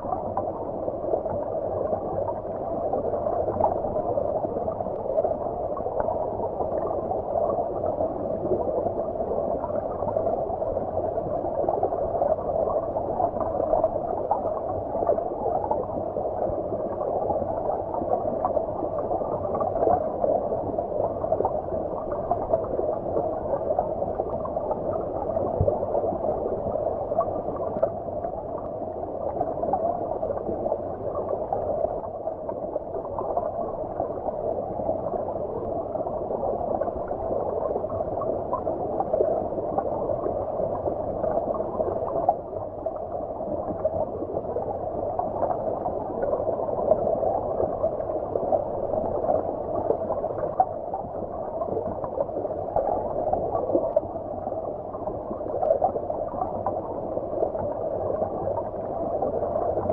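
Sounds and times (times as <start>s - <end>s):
muffled underwater stream gurgle: 0.0s - 59.9s.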